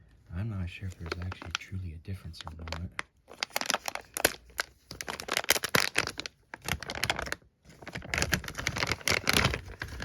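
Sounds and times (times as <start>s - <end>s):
plastic bag crinkling: 0.8s - 10.0s.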